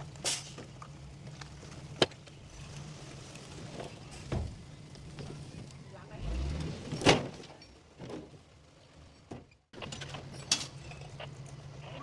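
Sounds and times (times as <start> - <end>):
engine running low: 0.0 - 12.0.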